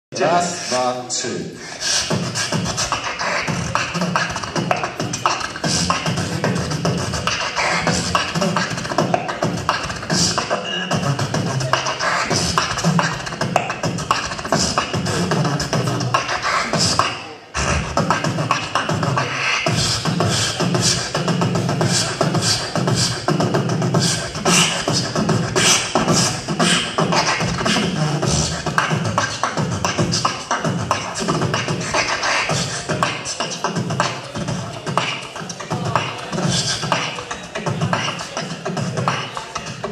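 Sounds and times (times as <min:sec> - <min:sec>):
person beatboxing: 0:00.1 - 0:39.9.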